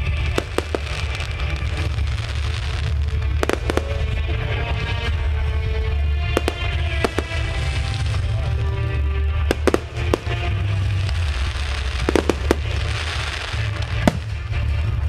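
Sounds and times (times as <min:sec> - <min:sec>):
fireworks bangs: 0:00.0 - 0:04.8, 0:06.2 - 0:15.0
fireworks crackling hiss: 0:00.0 - 0:15.0
music: 0:00.0 - 0:15.0.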